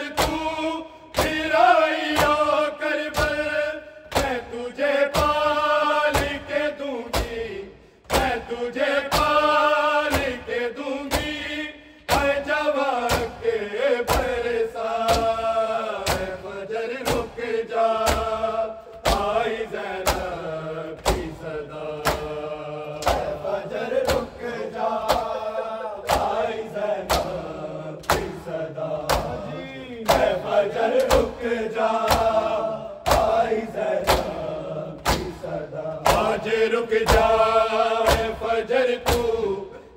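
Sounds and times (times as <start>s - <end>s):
chest beating slaps: 0.0s - 39.8s
men chanting a lament: 0.0s - 39.9s.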